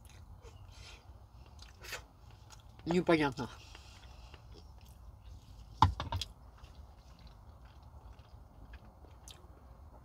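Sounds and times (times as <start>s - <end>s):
chewing and mouth sounds: 0.0s - 10.0s
low steady hum: 0.0s - 10.0s.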